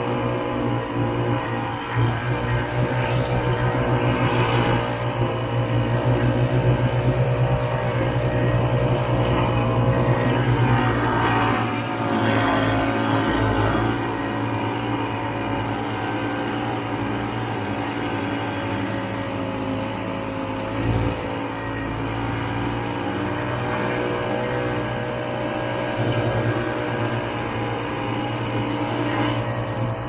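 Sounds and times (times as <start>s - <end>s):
snowmobile engine running: 0.0s - 30.0s.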